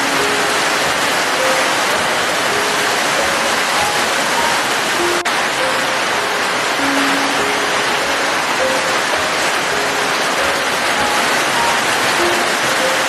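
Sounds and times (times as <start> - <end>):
heavy rain: 0.0 - 13.0
soft slow melody: 0.0 - 13.0.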